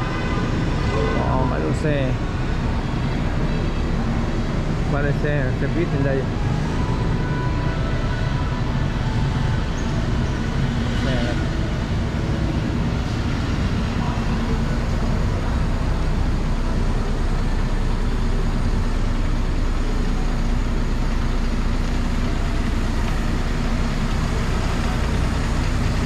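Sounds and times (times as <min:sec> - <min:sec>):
electric train running: 0:00.9 - 0:26.0.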